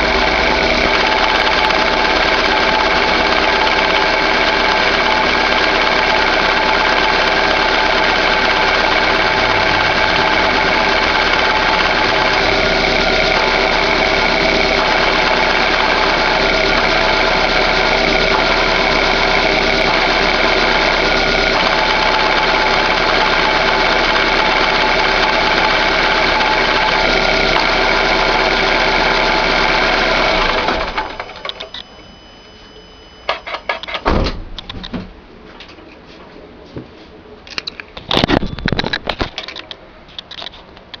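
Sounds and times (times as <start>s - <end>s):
car engine idling: 0.0s - 33.8s
steady mechanical whine: 0.0s - 36.6s.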